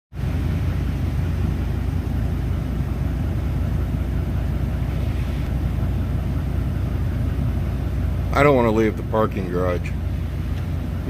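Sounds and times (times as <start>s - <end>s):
truck engine rumbling: 0.1s - 11.0s.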